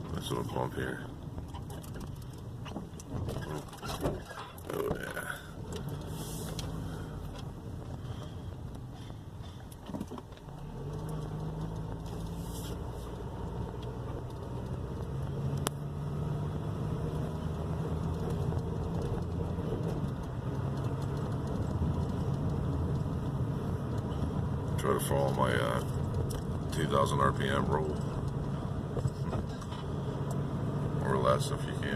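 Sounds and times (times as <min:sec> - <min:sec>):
car engine running: 0:00.0 - 0:31.9
road noise: 0:00.0 - 0:31.9.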